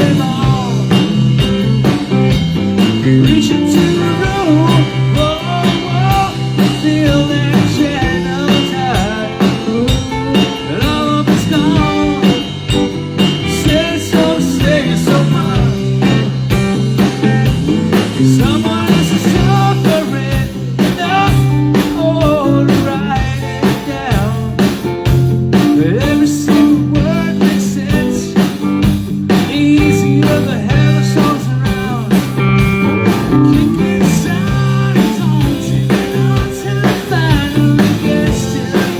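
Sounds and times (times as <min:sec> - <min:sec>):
bass: 0:00.0 - 0:38.9
electric guitar bending lines: 0:00.0 - 0:38.9
steady beat: 0:00.0 - 0:38.9.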